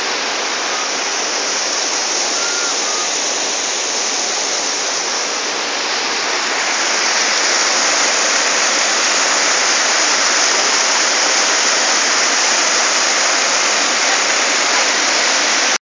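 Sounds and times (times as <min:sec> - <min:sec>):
water pouring over waterfall: 0:00.0 - 0:15.8.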